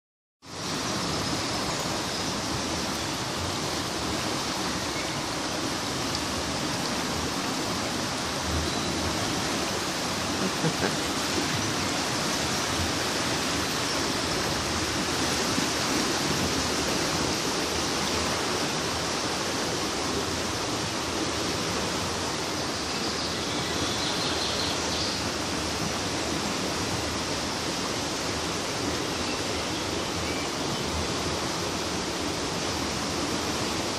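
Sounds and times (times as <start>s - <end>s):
floodwater rushing: 0.5s - 33.9s.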